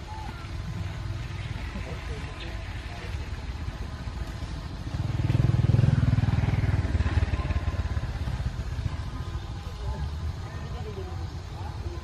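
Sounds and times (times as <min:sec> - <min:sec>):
vehicle engine passing by: 0:00.6 - 0:10.6.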